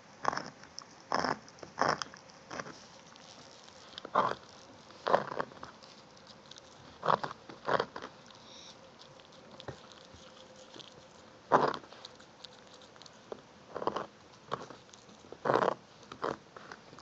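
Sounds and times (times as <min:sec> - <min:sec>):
dog gnawing antler: 0:00.2 - 0:17.0.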